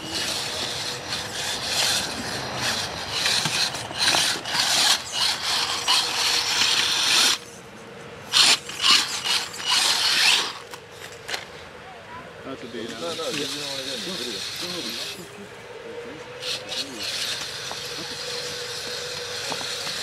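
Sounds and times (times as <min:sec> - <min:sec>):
toy truck tyres scraping and grinding: 0:00.0 - 0:11.7, 0:12.6 - 0:15.5, 0:16.2 - 0:20.0.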